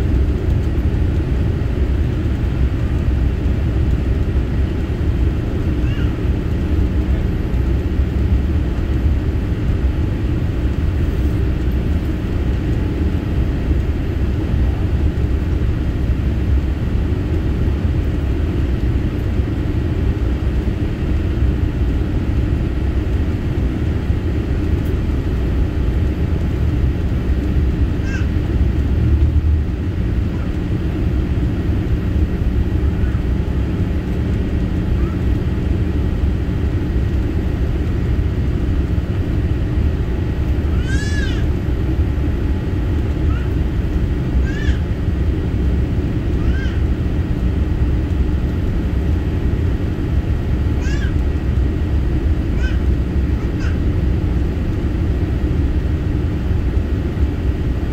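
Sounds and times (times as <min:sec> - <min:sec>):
aircraft cabin engine rumble: 0:00.0 - 0:57.9.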